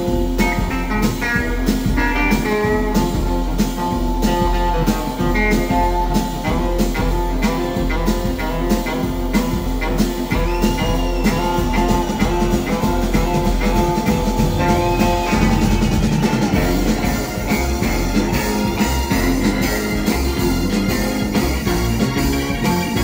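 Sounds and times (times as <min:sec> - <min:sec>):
drum kit steady beat: 0:00.0 - 0:23.0
electric guitar playing: 0:00.0 - 0:23.0.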